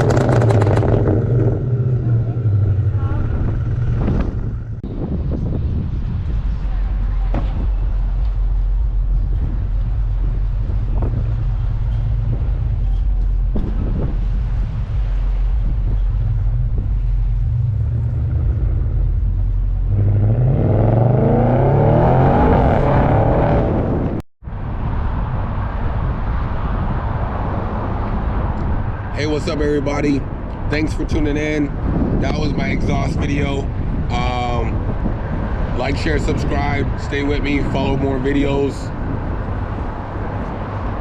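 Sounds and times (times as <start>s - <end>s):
car exhaust drone and revving: 0.0s - 41.0s.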